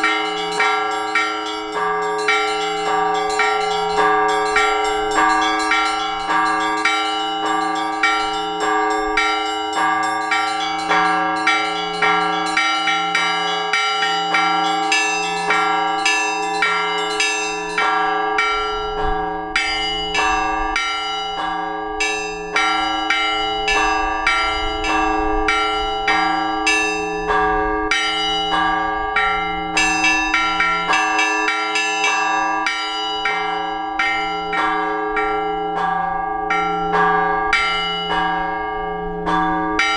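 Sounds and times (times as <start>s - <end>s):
hum of large bells: 0.0s - 39.9s.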